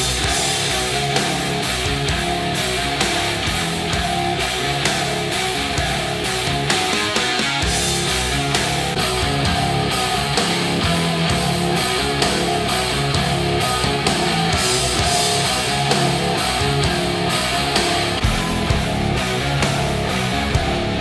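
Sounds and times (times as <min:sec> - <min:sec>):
rock music through speakers: 0:00.0 - 0:21.0.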